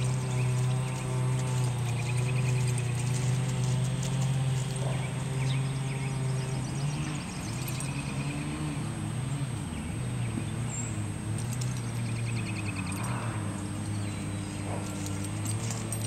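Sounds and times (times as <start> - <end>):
low engine-like drone: 0.0 - 16.0.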